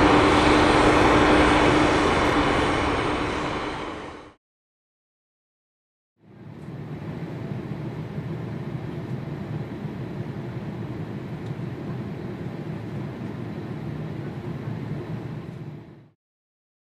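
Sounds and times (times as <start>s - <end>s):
jet engines rumbling: 0.0s - 4.4s, 6.2s - 16.2s.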